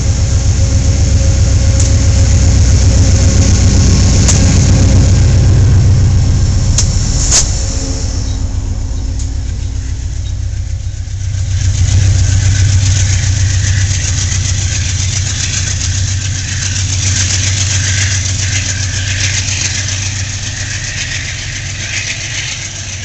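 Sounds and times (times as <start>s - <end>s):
diesel locomotive drone: 0.0s - 23.0s
locomotive hiss: 0.0s - 23.0s.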